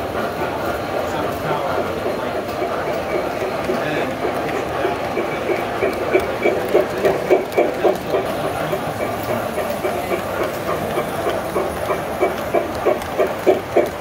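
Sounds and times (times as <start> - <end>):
toy train motor hum: 0.0 - 14.0
wheels clicking over track joints: 0.0 - 14.0.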